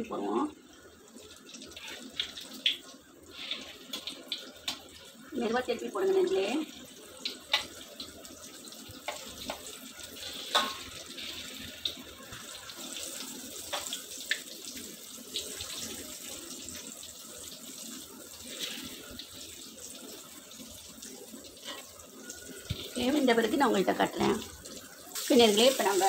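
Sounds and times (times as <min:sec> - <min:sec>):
deep-frying sizzle in oil: 0:00.0 - 0:26.0
oil popping and crackling: 0:01.5 - 0:26.0.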